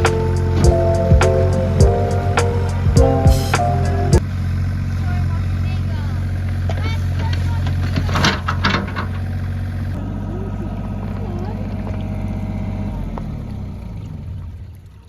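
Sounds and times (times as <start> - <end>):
digger engine running: 0.0 - 14.6.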